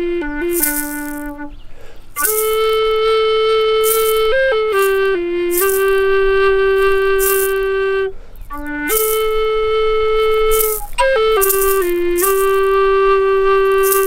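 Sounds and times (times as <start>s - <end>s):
flute playing slow melody: 0.0s - 14.0s
rattle shaken: 0.4s - 1.4s, 2.1s - 3.0s, 3.8s - 9.4s, 10.2s - 14.0s.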